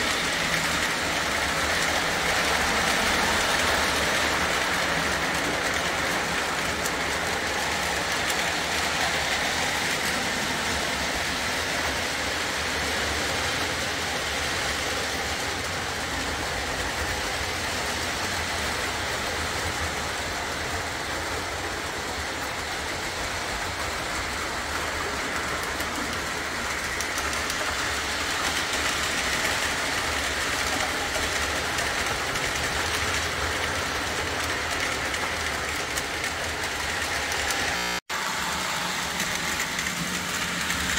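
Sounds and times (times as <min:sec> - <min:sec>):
model train wheels rumbling: 0:00.0 - 0:40.9.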